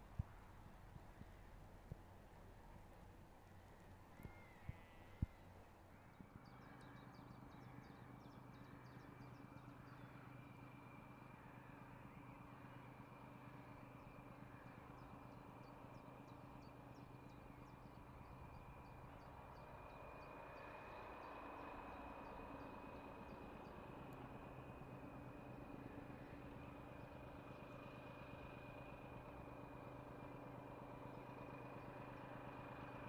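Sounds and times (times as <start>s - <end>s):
distant diesel locomotive drone: 0.0s - 33.0s.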